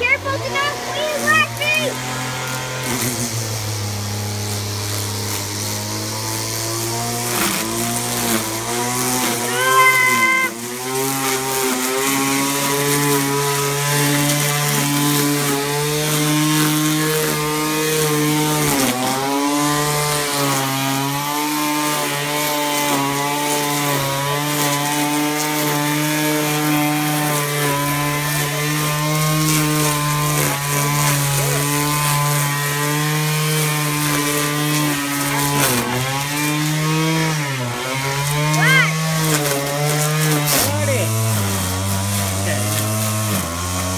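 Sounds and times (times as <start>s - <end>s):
string trimmer running: 0.0s - 43.9s.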